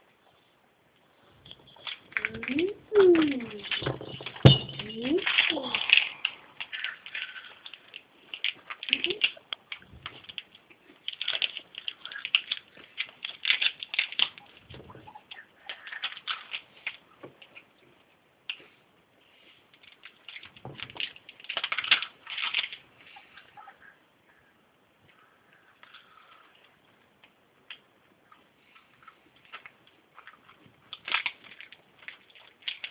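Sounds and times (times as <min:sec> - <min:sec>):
guinea pig crunching dry food: 0:01.6 - 0:03.8, 0:04.8 - 0:24.4, 0:25.1 - 0:32.9.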